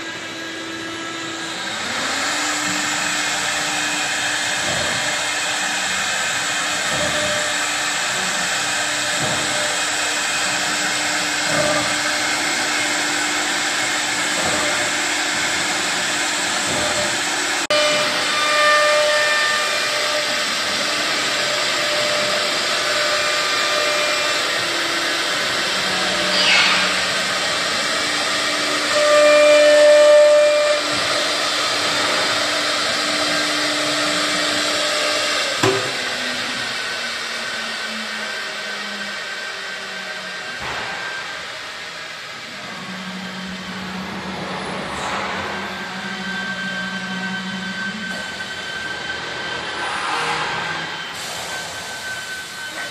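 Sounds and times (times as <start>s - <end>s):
router spindle whine: 0.0s - 52.9s.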